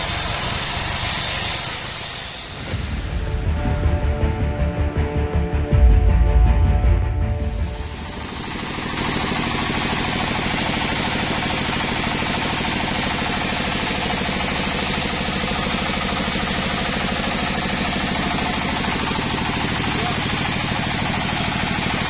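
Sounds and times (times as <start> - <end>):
engine chugging: 0.0 - 22.0.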